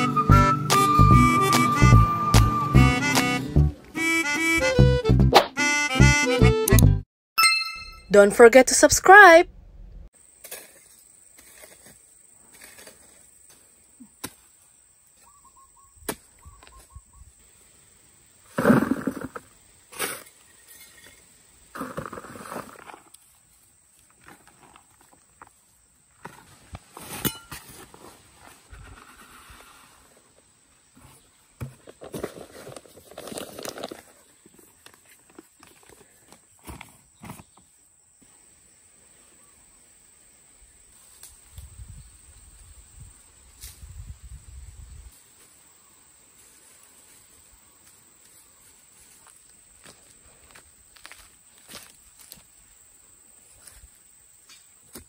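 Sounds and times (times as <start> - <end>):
insects chirring: 10.2 - 27.6, 28.2 - 55.0.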